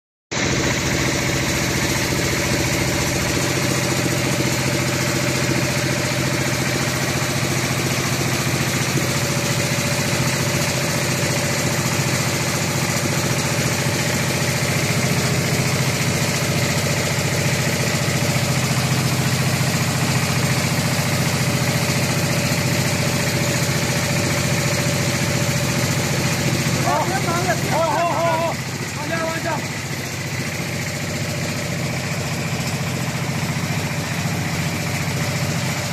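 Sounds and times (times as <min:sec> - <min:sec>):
mortar spraying machine engine drone: 0:00.4 - 0:35.9.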